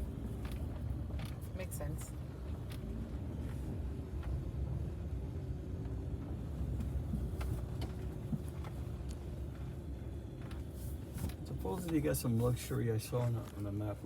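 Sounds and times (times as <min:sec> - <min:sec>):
camper van engine and tyres rumbling: 0:00.0 - 0:14.0.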